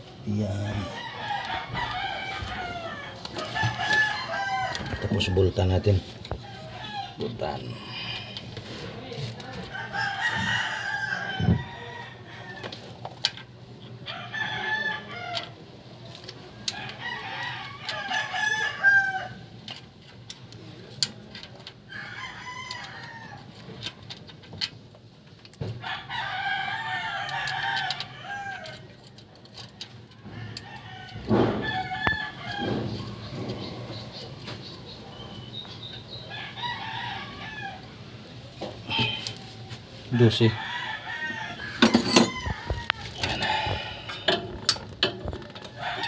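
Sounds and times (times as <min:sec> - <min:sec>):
roosters crowing: 0:00.0 - 0:13.0, 0:13.9 - 0:15.8, 0:16.4 - 0:19.7, 0:21.8 - 0:24.0, 0:25.6 - 0:46.0.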